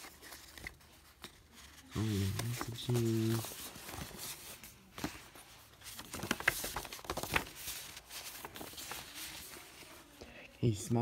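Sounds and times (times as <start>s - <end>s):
paper rustling: 0.0s - 10.2s.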